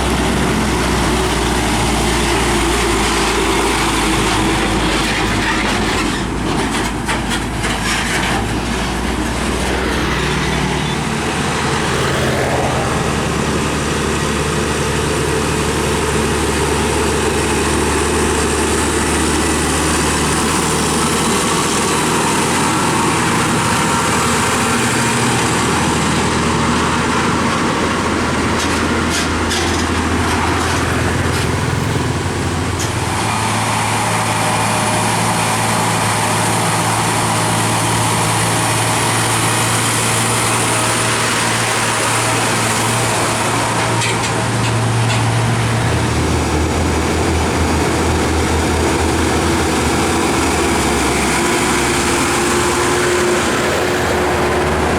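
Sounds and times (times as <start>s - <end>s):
diesel trucks passing: 0.0s - 54.9s.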